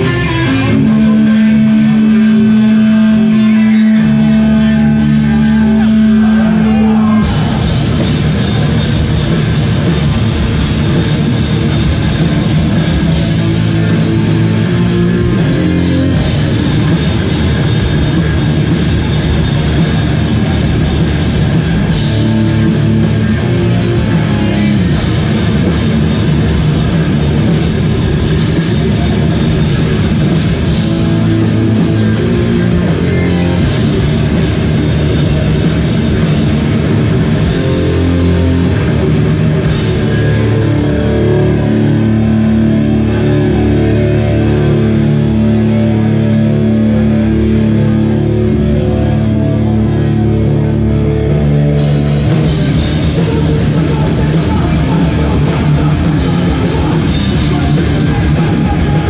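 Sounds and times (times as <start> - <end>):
live hardcore band playing: 0.0 - 59.0.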